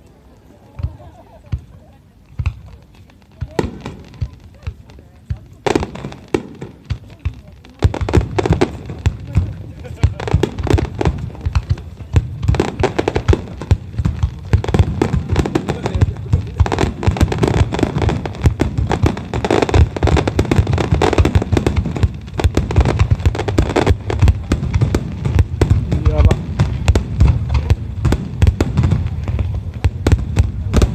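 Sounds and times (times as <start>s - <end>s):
fireworks booming and crackling: 0.6s - 30.9s.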